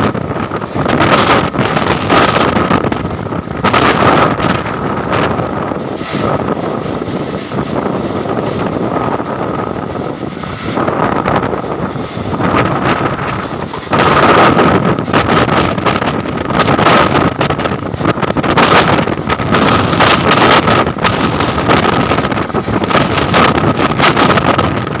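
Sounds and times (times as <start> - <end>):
electric train rushing clatter: 0.0 - 25.0
wind on microphone: 0.0 - 25.0.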